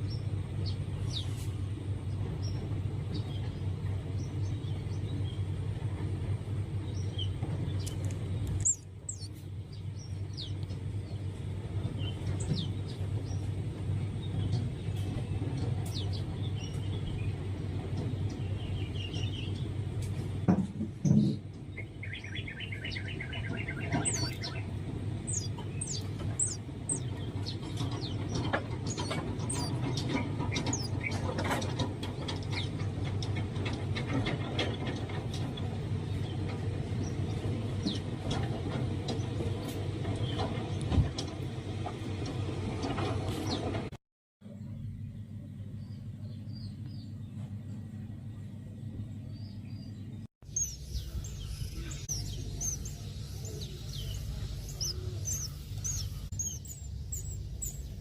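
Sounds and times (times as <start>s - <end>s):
steady low rumble: 0.0s - 20.5s, 21.5s - 43.8s, 44.4s - 58.0s
birds chirping: 0.0s - 42.0s, 42.8s - 43.9s, 44.5s - 58.0s.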